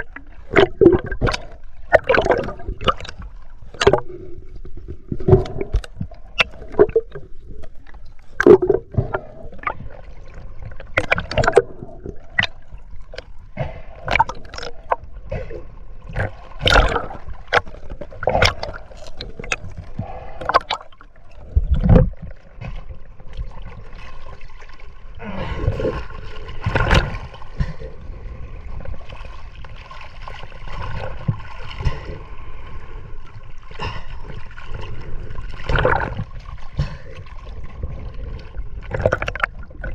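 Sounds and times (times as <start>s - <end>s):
choppy surface water splashing: 0.0s - 39.9s
underwater gurgling and bubbling: 0.0s - 39.9s.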